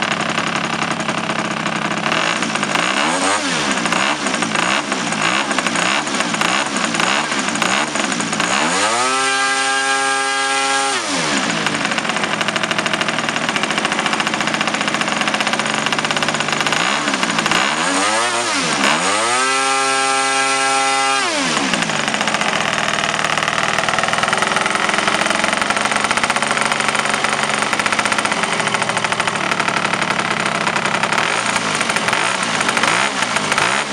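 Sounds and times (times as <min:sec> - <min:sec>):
model aircraft engine revving: 0:00.0 - 0:33.9.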